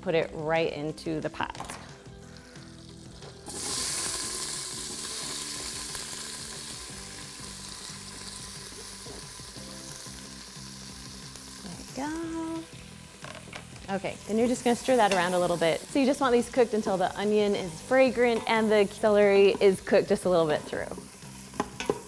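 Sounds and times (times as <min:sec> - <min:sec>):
vegetables sizzling in oil: 0:01.8 - 0:22.0.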